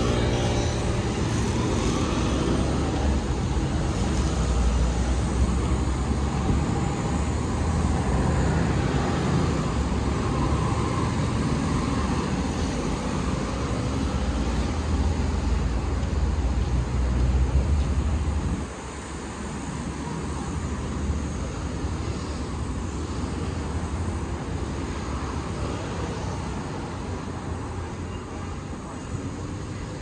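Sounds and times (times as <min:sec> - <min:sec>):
low rumble of passing cars: 0:00.0 - 0:30.0.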